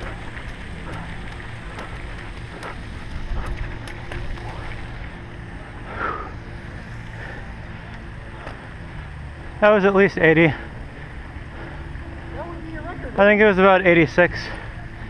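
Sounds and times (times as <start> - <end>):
wind rumbling on microphone: 0.0 - 13.4.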